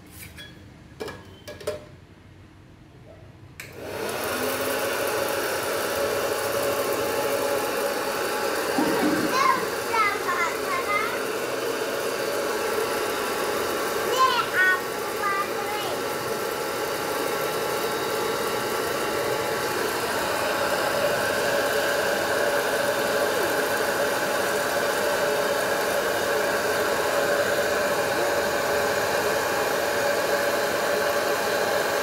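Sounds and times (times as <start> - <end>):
popcorn maker fan whirring: 3.6 - 32.0.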